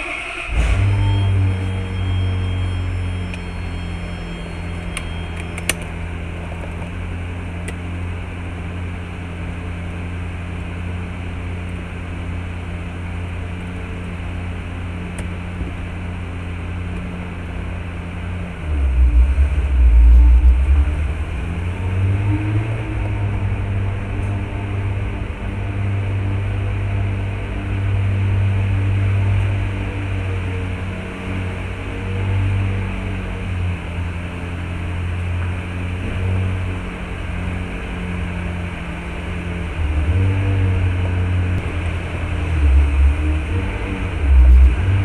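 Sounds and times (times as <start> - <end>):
car engine idling: 0.0 - 31.9, 33.3 - 45.0
car engine rumble moving off: 0.0 - 45.0.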